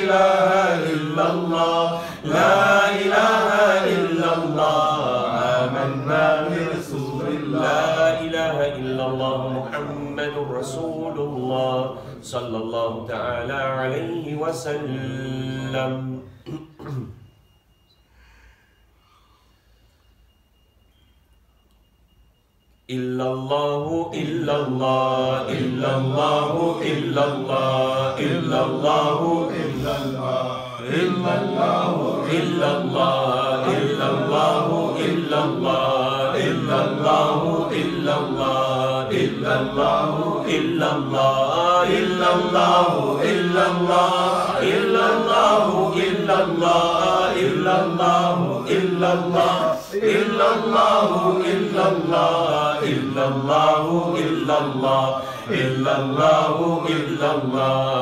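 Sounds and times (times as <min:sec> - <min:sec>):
men chanting melodically: 0:00.0 - 0:16.6, 0:22.9 - 0:58.0.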